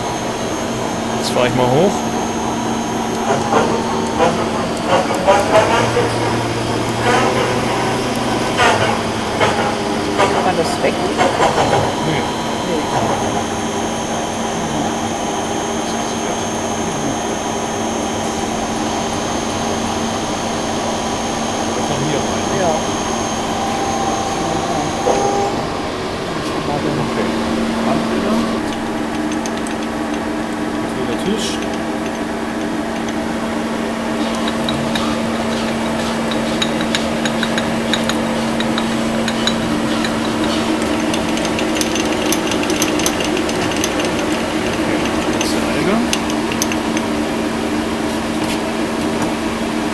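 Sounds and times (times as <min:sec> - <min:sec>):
lathe machine hum with whine: 0:00.0 - 0:49.9.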